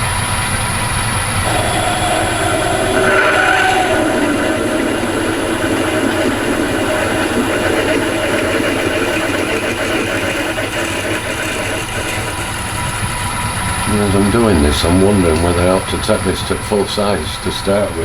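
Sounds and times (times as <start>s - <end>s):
lathe drilling with high whine: 0.0s - 18.0s.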